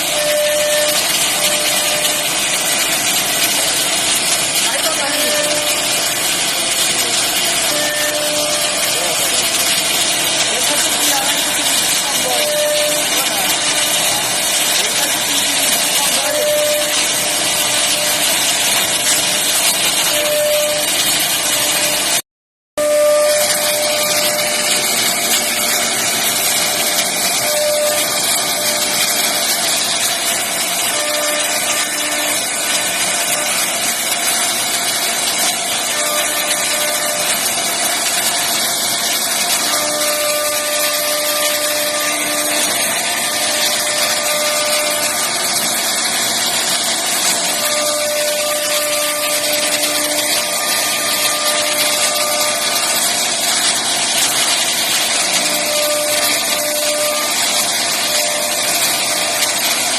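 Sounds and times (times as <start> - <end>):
router spindle carving wood: 0.0 - 22.2, 22.8 - 59.9.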